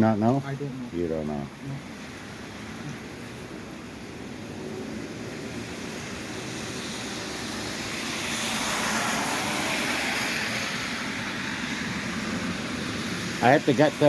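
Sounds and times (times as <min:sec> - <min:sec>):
vehicle passing on wet road: 0:00.1 - 0:14.0.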